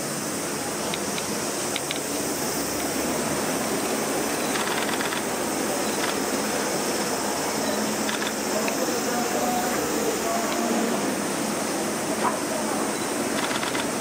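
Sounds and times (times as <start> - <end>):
indoor hall background hiss: 0.0 - 14.0.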